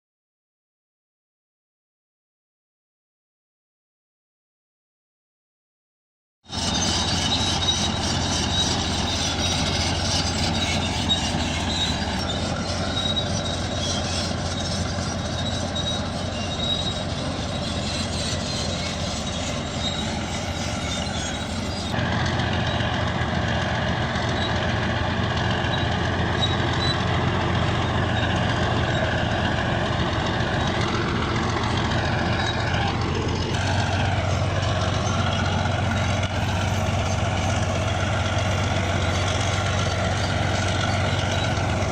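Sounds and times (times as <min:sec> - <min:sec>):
bulldozer diesel engine: 0:06.5 - 0:41.9
steel tracks clanking and squealing: 0:06.5 - 0:41.9.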